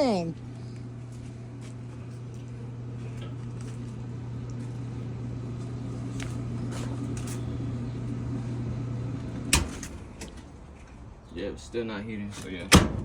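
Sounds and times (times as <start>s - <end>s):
clothes dryer humming: 0.0s - 11.1s.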